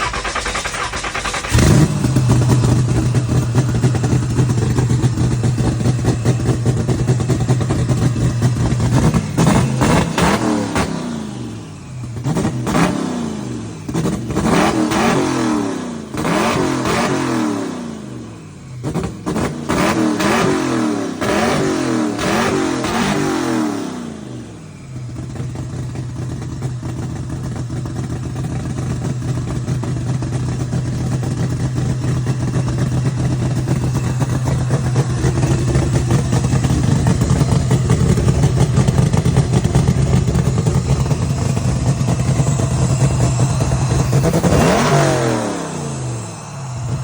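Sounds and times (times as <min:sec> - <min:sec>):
car engine revving: 0:00.0 - 0:24.6, 0:29.0 - 0:47.0.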